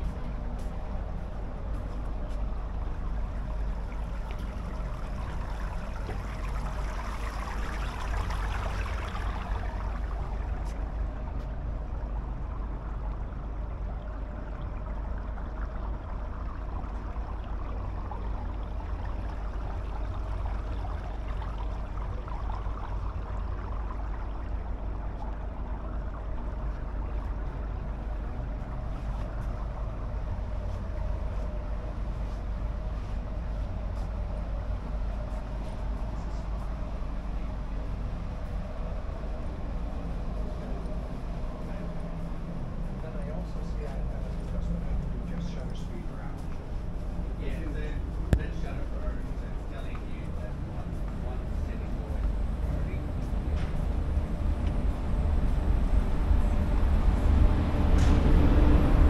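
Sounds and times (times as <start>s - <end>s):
constant hum: 0.0s - 59.0s
low rumble: 0.0s - 59.0s.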